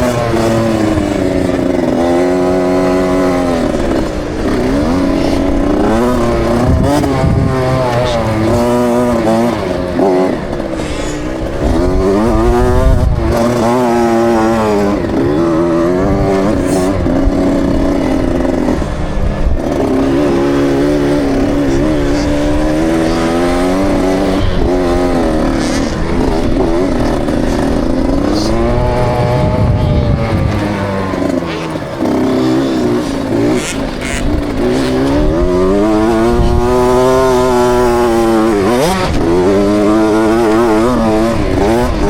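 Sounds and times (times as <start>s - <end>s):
two-stroke motocross bike revving: 0.0s - 42.0s.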